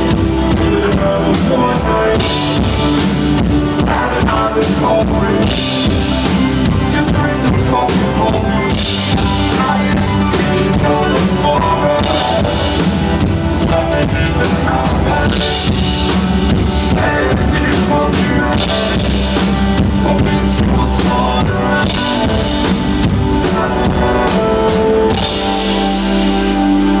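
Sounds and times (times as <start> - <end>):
drum kit pounding: 0.0 - 26.8
guitar chords: 0.0 - 27.0
keyboard chords: 0.0 - 27.0.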